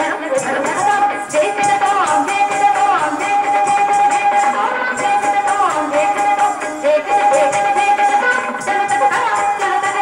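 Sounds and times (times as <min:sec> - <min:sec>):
jingling percussion: 0:00.0 - 0:10.0.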